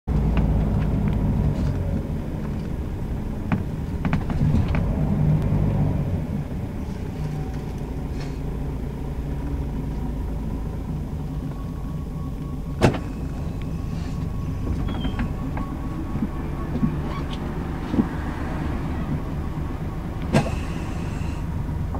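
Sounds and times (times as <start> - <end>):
bus diesel engine hum: 0.1 - 21.9.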